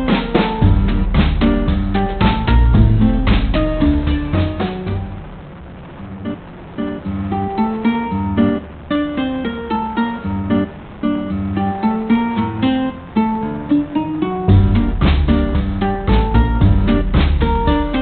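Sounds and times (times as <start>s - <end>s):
plucked guitar notes: 0.0s - 5.4s, 6.0s - 18.0s.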